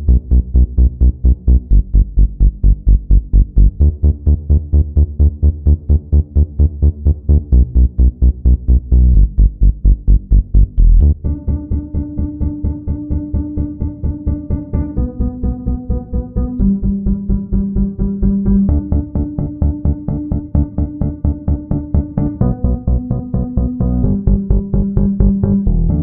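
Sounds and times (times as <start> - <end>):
electronic music with pumping bass: 0.0 - 26.0.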